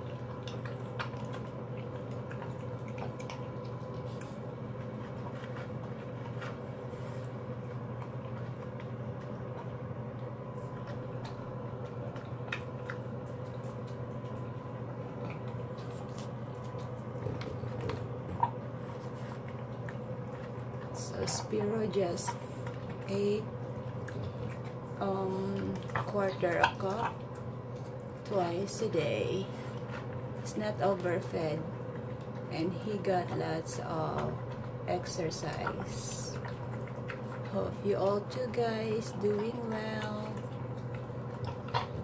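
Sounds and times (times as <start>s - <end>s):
dog chewing dry kibble: 0.0s - 42.0s
steady low hum: 0.0s - 42.0s.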